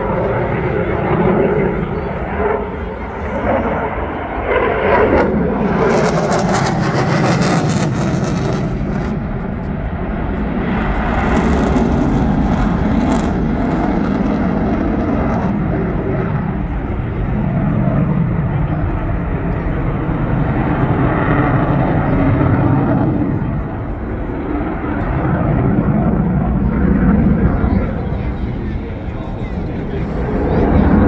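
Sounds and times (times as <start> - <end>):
jet engine crackle: 0.0 - 31.0
jet engines roaring: 0.0 - 31.0.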